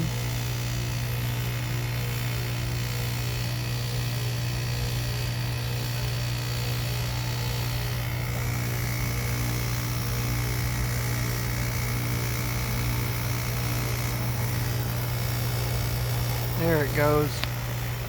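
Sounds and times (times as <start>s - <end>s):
heat pump low hum: 0.0s - 18.0s.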